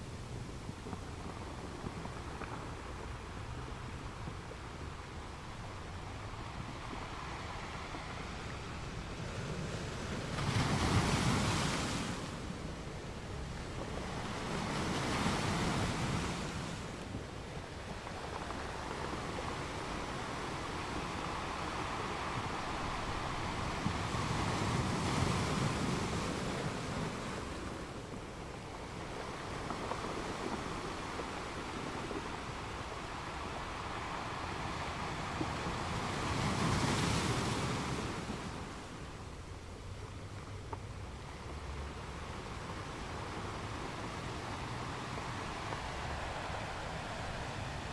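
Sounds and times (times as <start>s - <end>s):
ocean waves washing onto beach: 0.0s - 47.9s
surf hissing: 0.0s - 47.9s.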